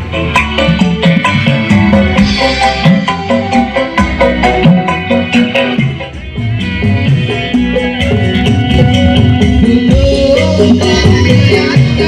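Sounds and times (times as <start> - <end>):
steady music beat: 0.0 - 12.0.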